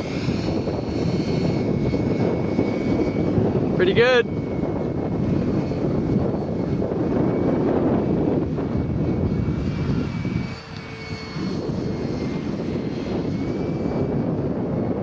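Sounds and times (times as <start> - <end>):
model jet motor whine: 0.0 - 15.0
wind rumble on microphone: 0.0 - 15.0.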